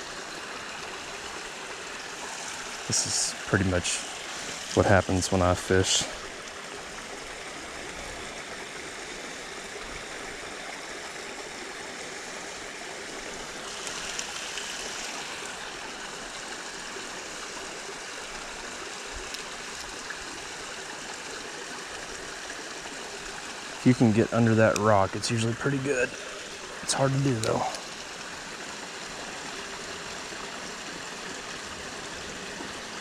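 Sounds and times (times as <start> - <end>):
creek water running over rocks: 0.0 - 33.0.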